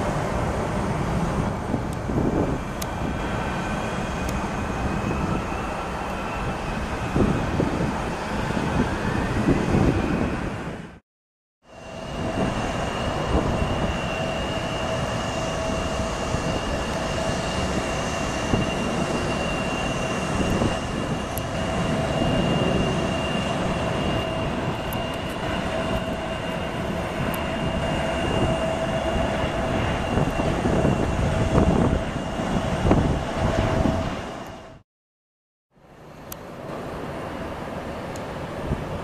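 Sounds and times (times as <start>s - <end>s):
jet engine whine: 0.0s - 11.0s, 11.6s - 34.8s, 35.7s - 39.0s
jet rumble: 0.0s - 11.0s, 11.7s - 34.8s.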